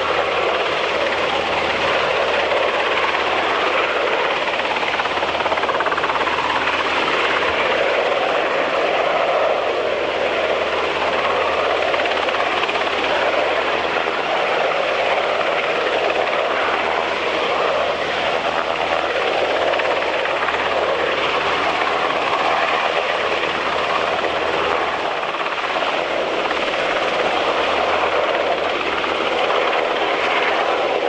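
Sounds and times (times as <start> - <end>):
helicopter rotor and engines: 0.0 - 31.0.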